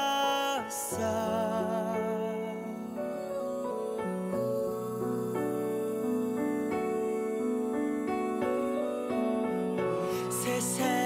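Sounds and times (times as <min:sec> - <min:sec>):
slow ballad music: 0:00.0 - 0:11.0.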